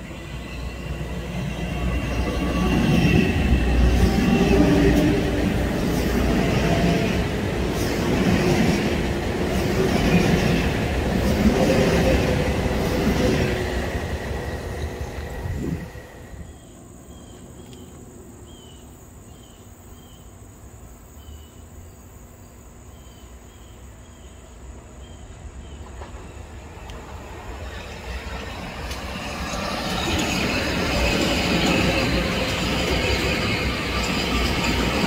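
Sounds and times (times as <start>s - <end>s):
electric train rumble: 0.0s - 17.7s, 23.9s - 35.0s
high insect drone: 0.0s - 35.0s.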